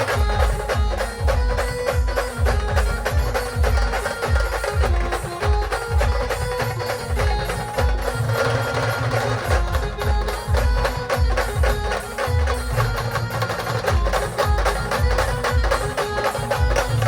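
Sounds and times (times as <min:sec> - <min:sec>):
fast percussion clicks: 0:00.0 - 0:17.0
rapid bass drum beats: 0:00.0 - 0:17.0
sustained instrumental melody: 0:00.0 - 0:17.0.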